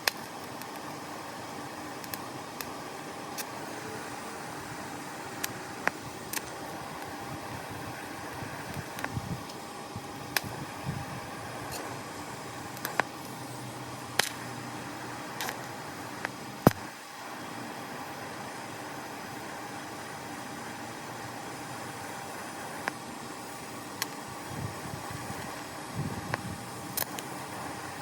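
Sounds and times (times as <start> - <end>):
welding hiss: 0.0 - 28.0.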